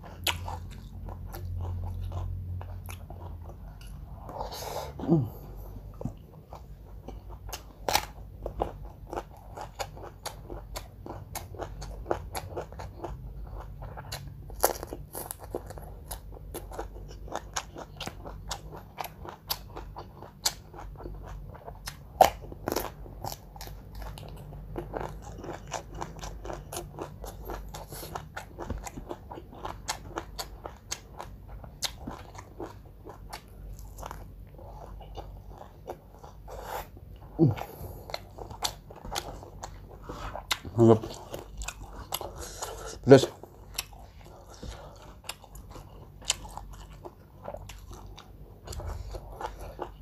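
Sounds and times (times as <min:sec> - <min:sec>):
crisp crunching and chewing: 0:05.3 - 0:50.0.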